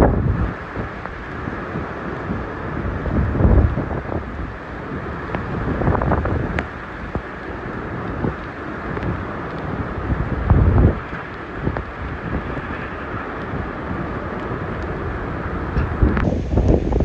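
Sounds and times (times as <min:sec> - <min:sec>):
heavy rain: 0:00.0 - 0:17.0
strong wind buffeting microphone: 0:00.0 - 0:17.0.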